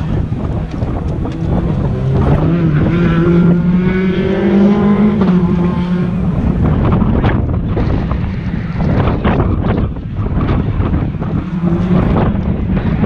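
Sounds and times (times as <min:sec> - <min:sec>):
engine running at high revs: 0:00.0 - 0:13.0
wind on microphone: 0:00.0 - 0:13.0.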